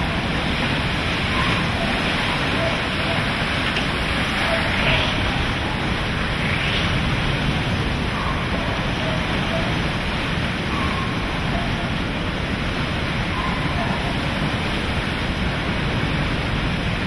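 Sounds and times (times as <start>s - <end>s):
loud storm wind: 0.0s - 17.0s
water rushing: 0.0s - 17.0s.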